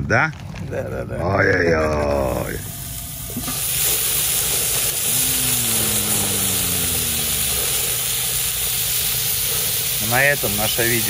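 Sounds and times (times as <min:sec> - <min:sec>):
sausages sizzling on grill: 0:00.6 - 0:11.0.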